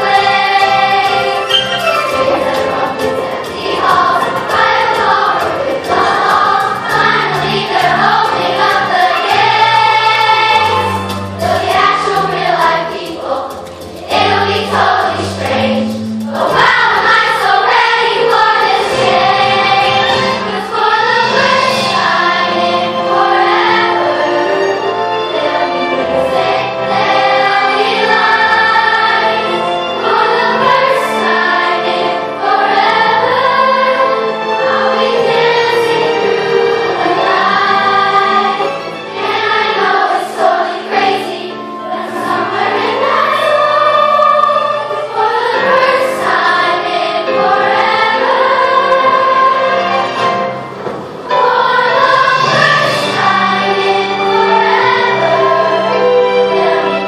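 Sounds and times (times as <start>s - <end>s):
children's choir singing: 0.0s - 57.0s
low accompanying notes: 0.0s - 57.0s.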